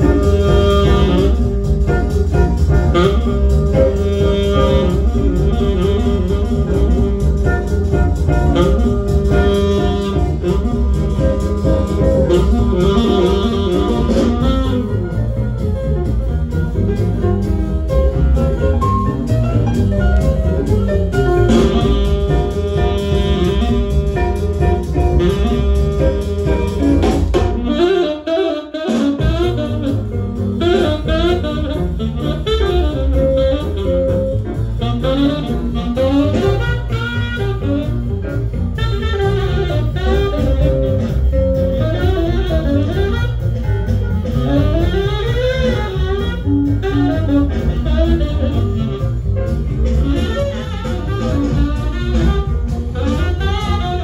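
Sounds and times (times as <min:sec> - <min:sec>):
jazz rhythm section: 0:00.0 - 0:54.0
jazz tenor saxophone: 0:00.0 - 0:54.0.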